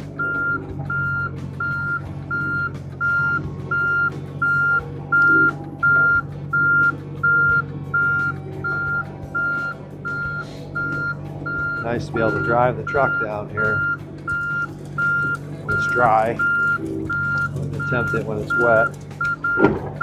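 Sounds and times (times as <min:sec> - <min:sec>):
excavator engine running: 0:00.0 - 0:20.0
motion alarm beeping: 0:00.0 - 0:20.0.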